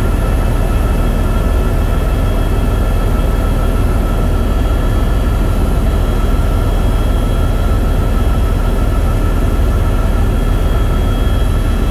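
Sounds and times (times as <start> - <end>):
helicopter low rumble: 0.0 - 11.9
helicopter thin whine: 0.0 - 11.9.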